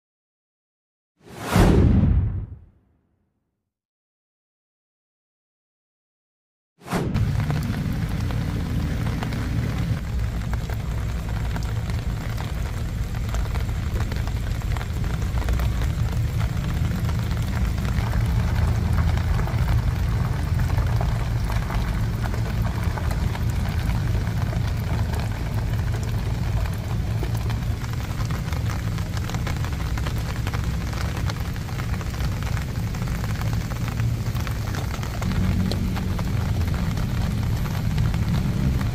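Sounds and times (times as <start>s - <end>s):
heavy rain on wet pavement: 6.9s - 38.9s
constant low rumble: 7.0s - 38.9s.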